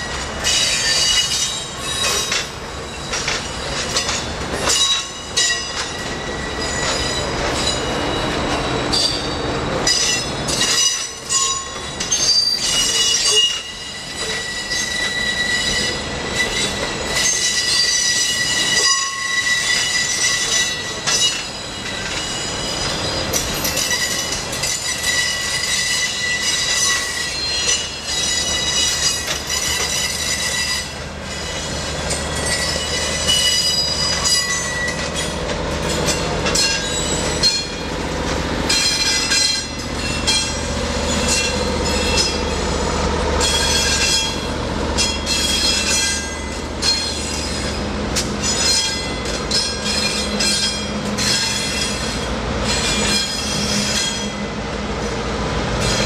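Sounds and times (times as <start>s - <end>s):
diesel locomotives passing: 0.0s - 56.0s
rail joint clicks: 0.0s - 56.0s
train wheels squealing on rails: 0.0s - 56.0s.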